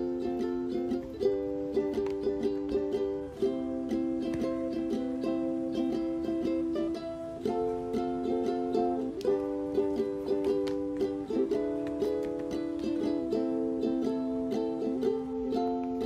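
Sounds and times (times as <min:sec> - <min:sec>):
light tune on plucked strings: 0:00.0 - 0:16.0.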